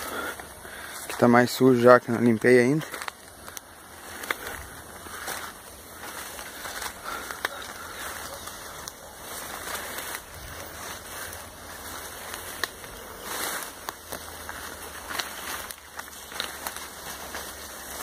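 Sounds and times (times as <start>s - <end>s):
footsteps through undergrowth: 0.0s - 18.0s
twigs snapping: 2.1s - 18.0s.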